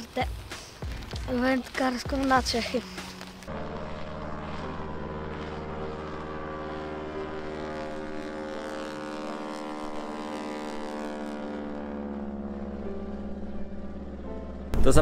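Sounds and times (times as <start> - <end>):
propeller aircraft engine drone: 0.0 - 15.0.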